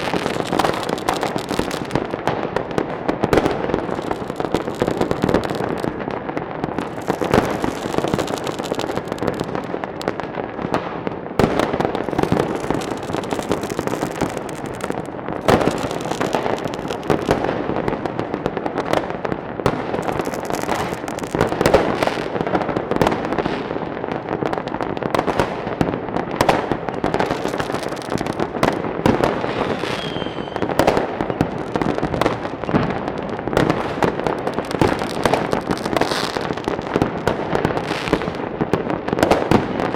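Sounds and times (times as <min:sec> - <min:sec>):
fireworks crackling and banging: 0:00.0 - 0:39.9.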